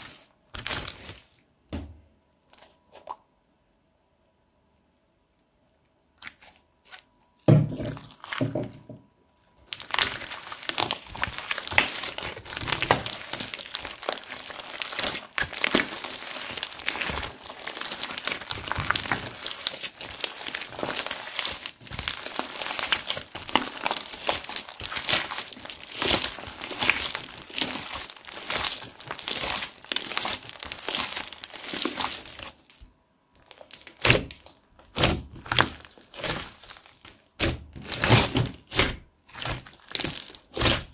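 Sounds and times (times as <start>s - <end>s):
slime crackling and popping: 0.0s - 1.3s, 7.8s - 8.5s, 9.6s - 32.8s, 33.4s - 40.9s.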